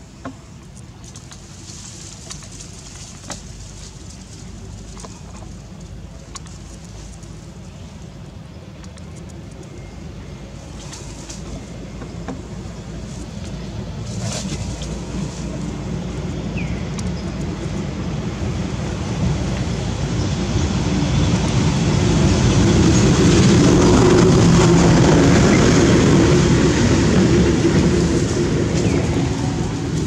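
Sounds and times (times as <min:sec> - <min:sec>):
engine-like drone: 0:00.0 - 0:30.0
low rumble of approaching vehicle: 0:00.0 - 0:30.0.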